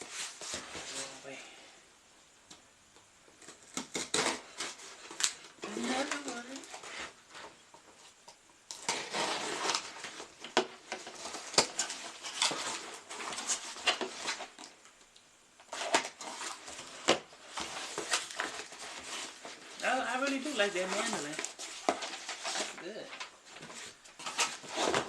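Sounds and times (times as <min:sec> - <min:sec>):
packaging rustling and crinkling: 0:03.5 - 0:14.9, 0:15.6 - 0:25.0.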